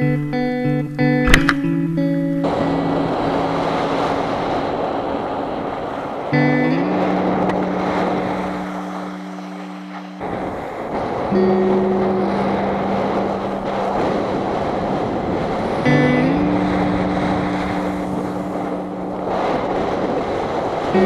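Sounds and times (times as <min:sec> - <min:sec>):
background music with held notes: 0:00.0 - 0:04.6, 0:06.3 - 0:20.2
wind rushing on helmet: 0:00.0 - 0:21.0.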